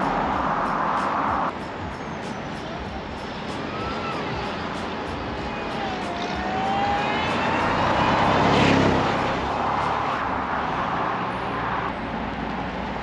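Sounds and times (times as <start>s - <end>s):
supercharger whine: 0.0s - 13.0s
truck engine driving past: 0.0s - 13.0s.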